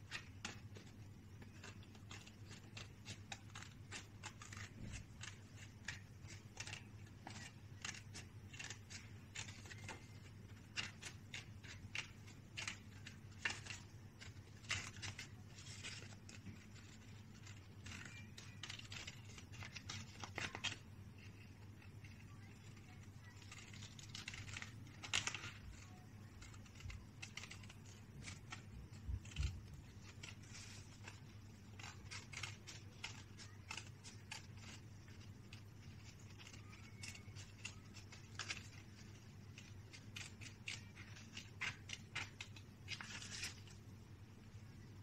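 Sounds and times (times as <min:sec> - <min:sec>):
scissors snipping paper: 0:00.0 - 0:43.8.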